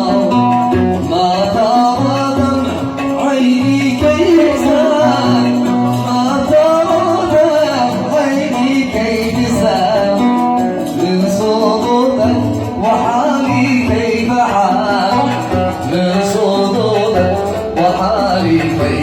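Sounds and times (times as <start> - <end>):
man singing: 0.0 - 19.0
oud playing: 0.0 - 19.0.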